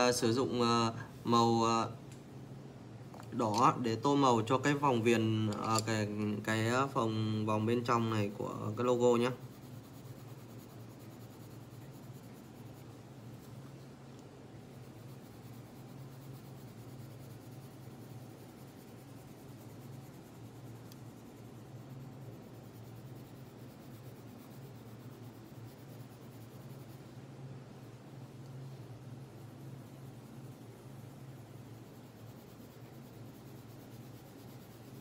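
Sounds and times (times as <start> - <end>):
steady low hum: 0.0 - 35.0
pencil scratching on paper: 3.4 - 35.0.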